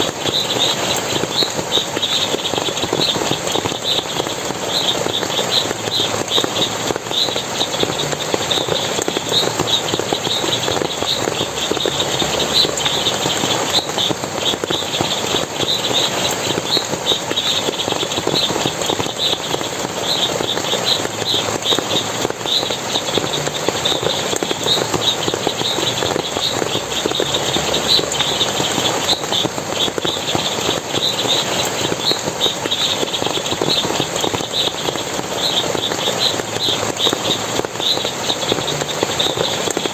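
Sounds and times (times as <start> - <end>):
water splashing and flowing: 0.0 - 39.9.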